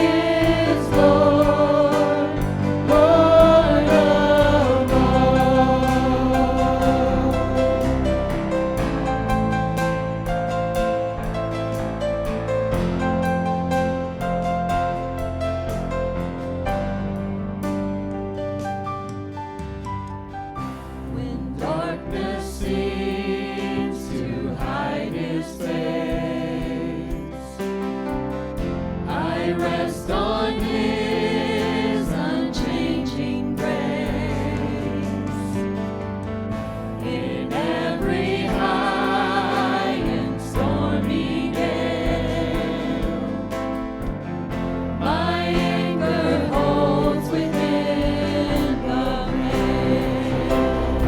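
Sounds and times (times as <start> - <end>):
voices singing a hymn: 0.0 - 15.0, 20.6 - 51.0
held keyboard chords: 0.0 - 51.0.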